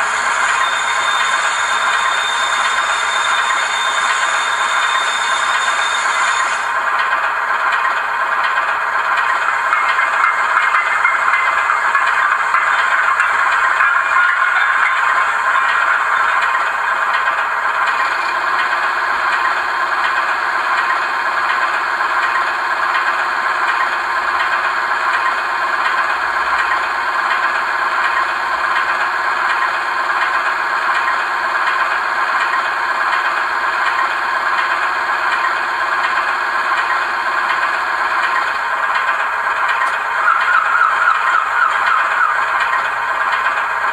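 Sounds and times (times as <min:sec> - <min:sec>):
model train diesel engine idling: 0:00.0 - 0:43.9.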